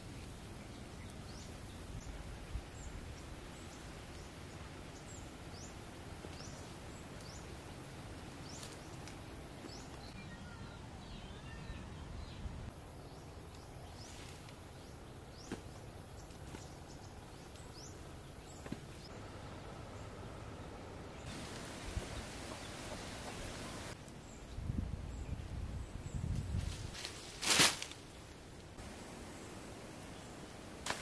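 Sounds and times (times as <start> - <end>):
birds chirping: 0.0 - 26.9, 28.0 - 31.0
steady background hiss: 0.0 - 31.0.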